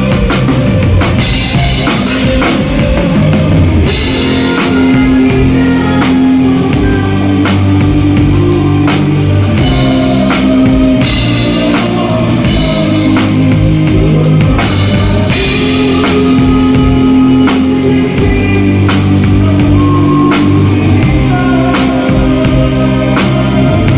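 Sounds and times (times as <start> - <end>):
bass and guitar backing track: 0.0 - 23.9.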